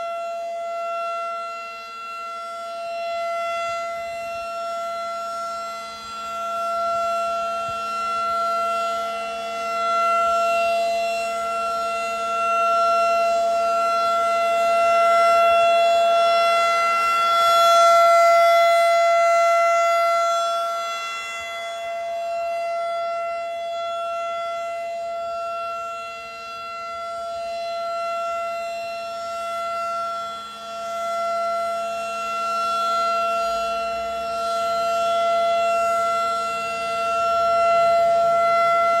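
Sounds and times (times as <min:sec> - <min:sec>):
rotating warning siren tone: 0:00.0 - 0:39.0.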